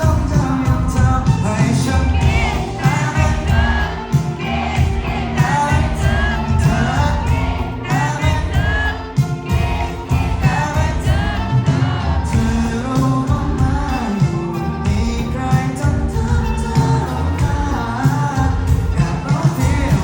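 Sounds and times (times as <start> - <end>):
drums: 0.0 - 20.0
lead singer: 0.0 - 20.0
pop-rock band playing live: 0.0 - 20.0.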